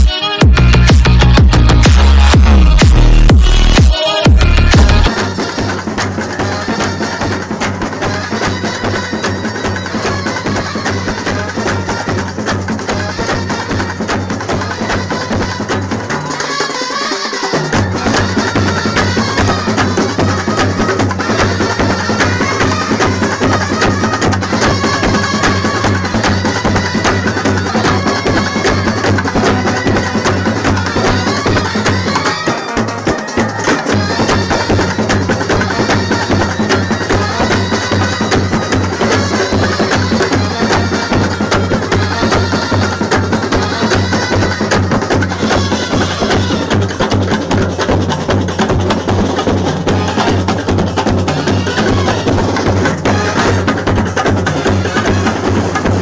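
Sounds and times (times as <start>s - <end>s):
instrumental song with fast percussion: 0.0s - 56.0s.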